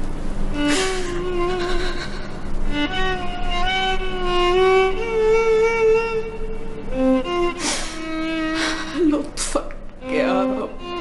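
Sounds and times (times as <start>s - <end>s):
slow solo violin melody: 0.5s - 11.0s.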